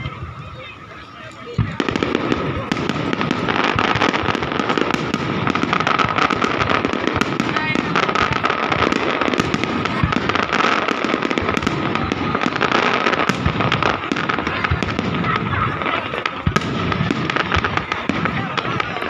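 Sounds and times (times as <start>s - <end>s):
deep fireworks booms: 0.0s - 19.0s
fireworks crackling and popping: 0.0s - 19.0s.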